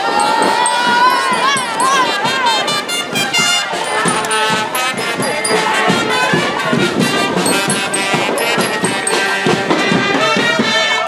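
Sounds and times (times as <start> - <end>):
brass band playing: 0.0 - 11.0
crowd voices: 0.0 - 11.0.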